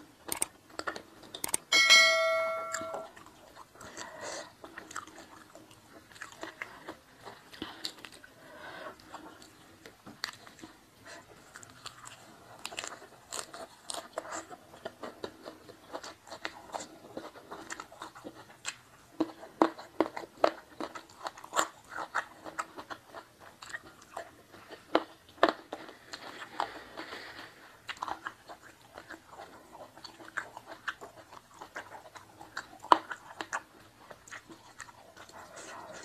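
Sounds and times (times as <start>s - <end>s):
person chewing crunchy food: 0.0s - 1.7s, 2.7s - 36.0s.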